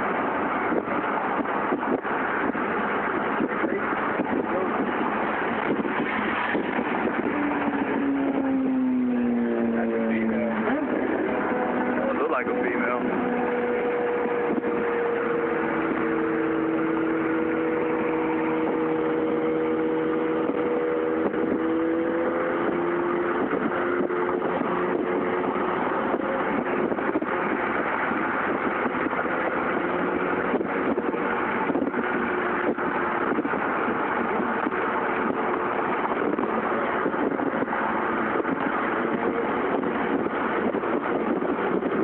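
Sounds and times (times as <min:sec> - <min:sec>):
engine hum: 0:00.0 - 0:42.0
road noise inside moving vehicle: 0:00.0 - 0:42.0.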